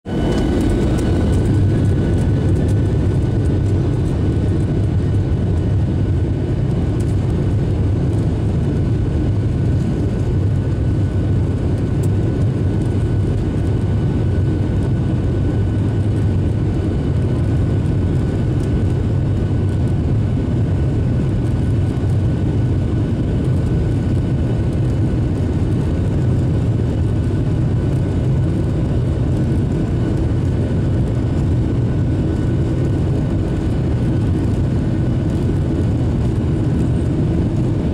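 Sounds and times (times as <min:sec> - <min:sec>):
jet engines droning: 0:00.1 - 0:37.9.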